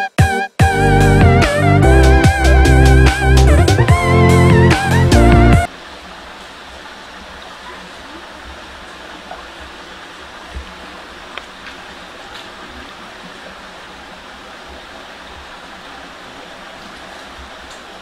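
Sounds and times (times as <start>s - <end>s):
forest background hiss: 0.8s - 18.0s.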